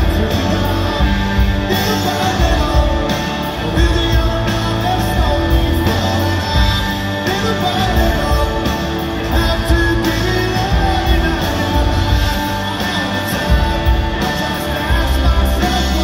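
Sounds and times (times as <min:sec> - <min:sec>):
live rock band: 0:00.0 - 0:16.0
man singing: 0:00.0 - 0:16.0.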